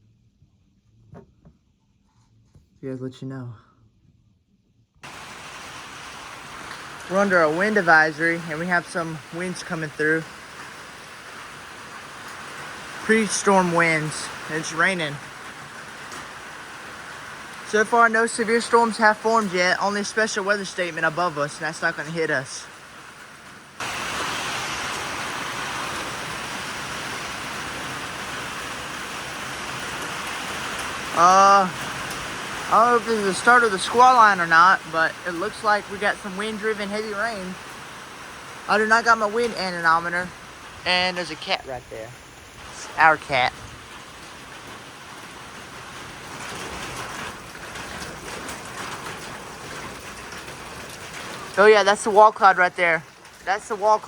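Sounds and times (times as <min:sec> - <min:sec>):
wind-driven heavy rain: 0:05.0 - 0:54.0.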